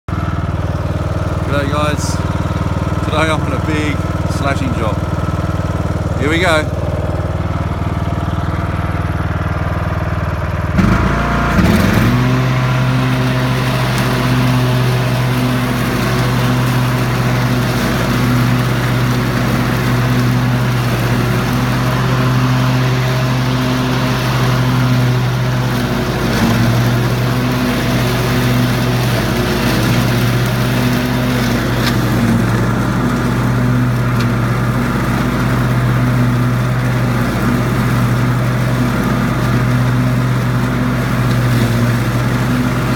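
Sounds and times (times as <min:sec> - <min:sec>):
mower engine cutting grass: 0:00.1 - 0:42.9.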